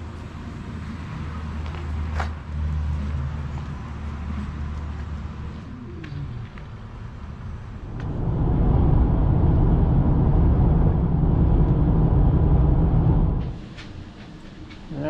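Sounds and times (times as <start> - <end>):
vehicle engine rumble: 0.0 - 14.0
road noise: 0.0 - 14.9.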